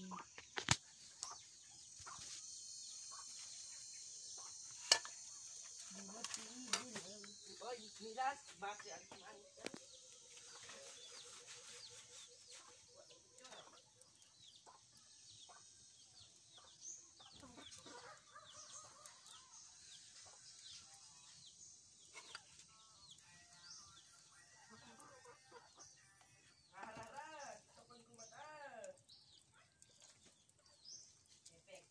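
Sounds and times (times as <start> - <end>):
chickens clucking and peeping: 0.0 - 2.4, 3.1 - 29.0.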